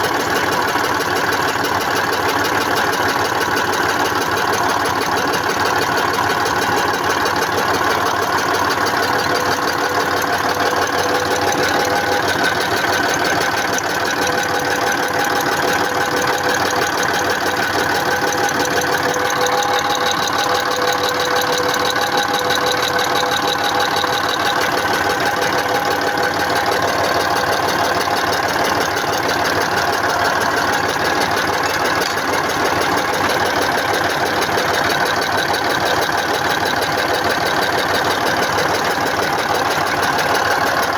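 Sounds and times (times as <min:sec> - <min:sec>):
diesel engine clattering: 0:00.0 - 0:40.9.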